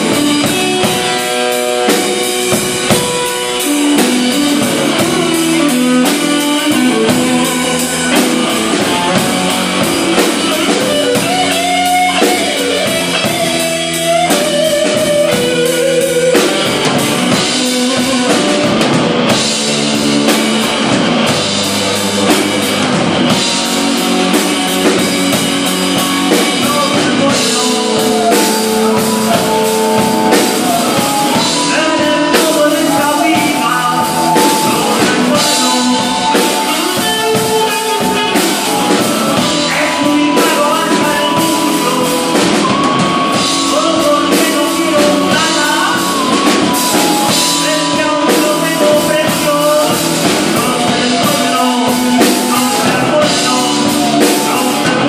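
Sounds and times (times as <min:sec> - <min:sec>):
drum kit beat: 0:00.0 - 0:55.0
electric guitars: 0:00.0 - 0:55.0.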